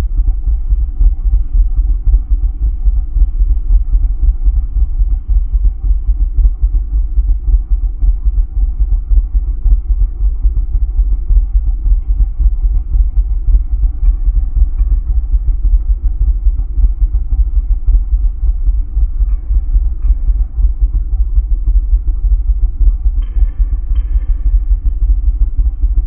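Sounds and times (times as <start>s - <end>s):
dark ambient drone: 0.0s - 26.0s.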